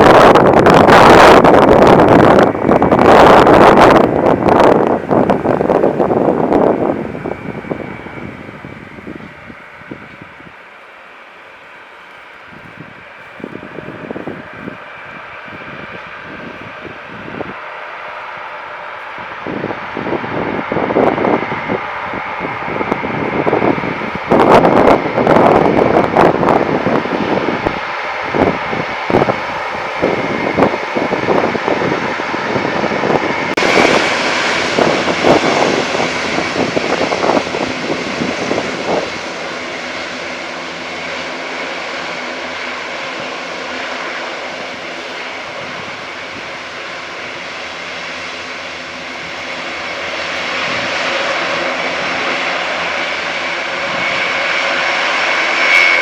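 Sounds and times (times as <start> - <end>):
buffeting noise: 0.0 - 56.0
turboprop engines whining: 0.0 - 56.0.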